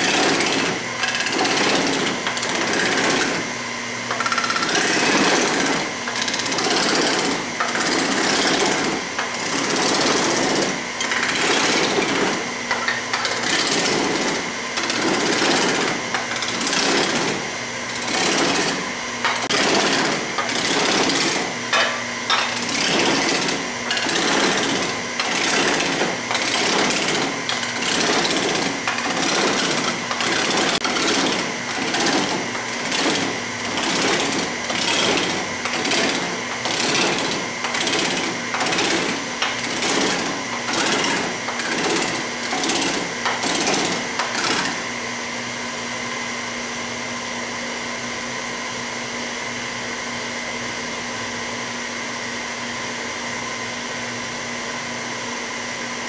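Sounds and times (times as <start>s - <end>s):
machine humming: 0.0s - 45.2s.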